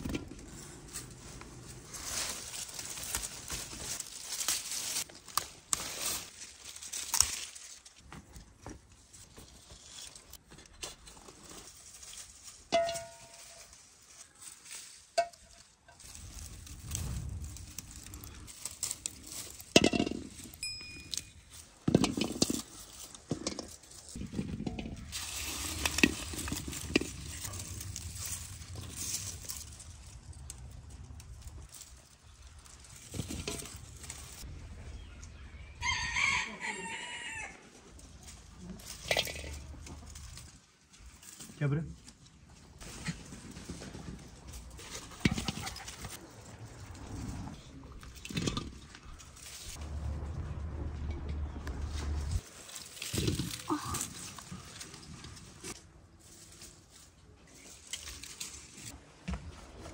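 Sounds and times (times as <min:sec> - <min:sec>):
plants rustling: 0:00.0 - 0:36.2, 0:37.8 - 0:59.9.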